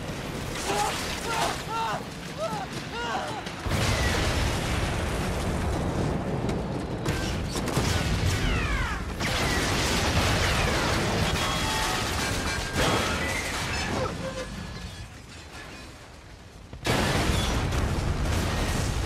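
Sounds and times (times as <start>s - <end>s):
explosions: 0.0s - 14.4s, 16.7s - 19.0s
crackling debris: 0.0s - 19.0s.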